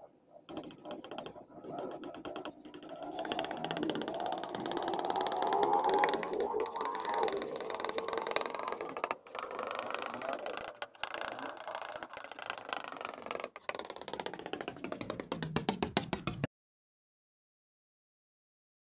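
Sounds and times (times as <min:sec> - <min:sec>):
palette knife spreading wet paint: 0:00.5 - 0:16.5.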